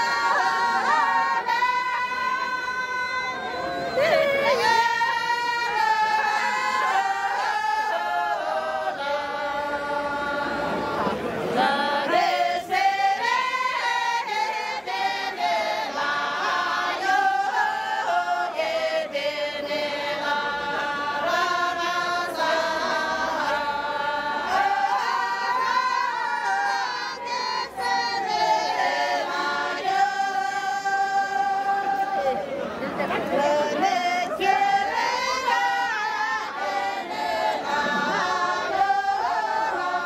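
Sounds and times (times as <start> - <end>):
women singing in unison: 0.0 - 40.0.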